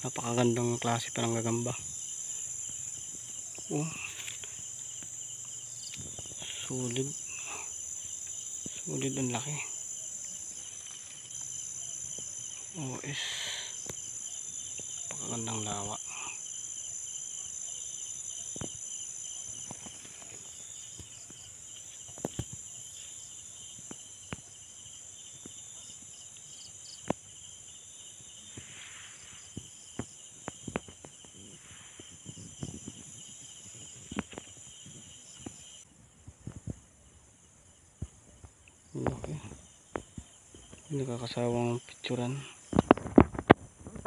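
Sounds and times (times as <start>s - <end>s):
night insects trilling: 0.0s - 44.0s.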